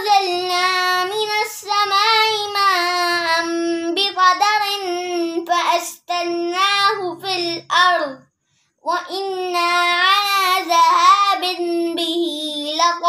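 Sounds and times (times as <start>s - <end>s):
boy chanting melodically: 0.0s - 13.0s.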